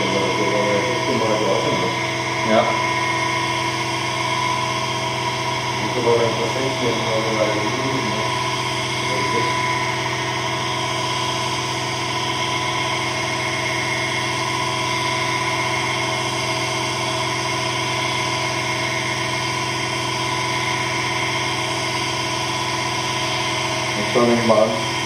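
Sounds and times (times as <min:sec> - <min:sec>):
electric motor humming: 0:00.0 - 0:25.0.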